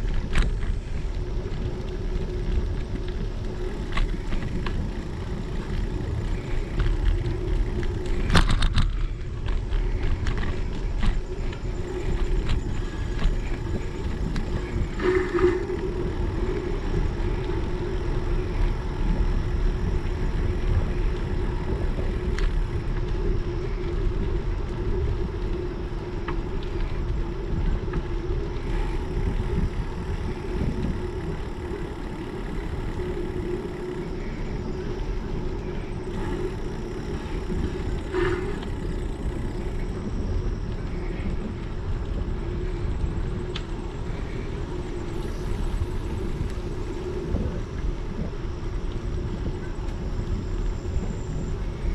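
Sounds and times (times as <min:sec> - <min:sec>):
bicycle tyre rumble: 0:00.0 - 0:51.9
low hum: 0:00.0 - 0:51.9
wind buffeting microphone: 0:00.0 - 0:51.9.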